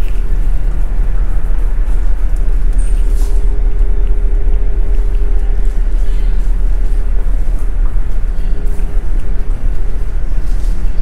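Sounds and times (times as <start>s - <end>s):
ship engines rumbling: 0.0s - 11.0s
wind buffeting microphone: 0.0s - 11.0s.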